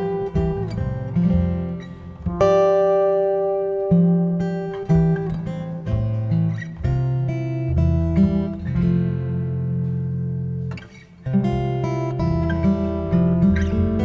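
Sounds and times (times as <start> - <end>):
acoustic bass notes: 0.0 - 14.0
acoustic guitar plucked chords: 0.0 - 14.0.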